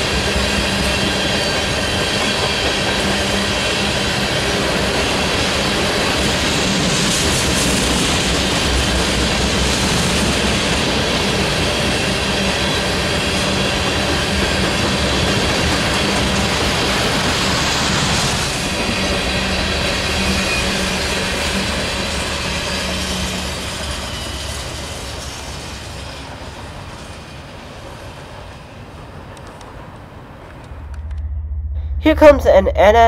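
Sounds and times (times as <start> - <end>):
freight train passing fast: 0.0 - 31.2.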